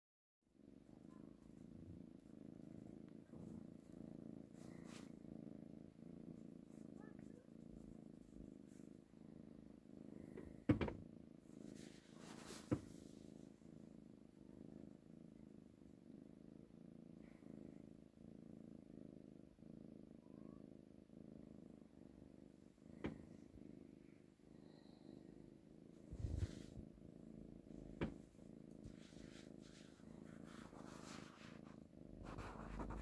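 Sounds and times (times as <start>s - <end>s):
cat purring: 0.5s - 33.0s.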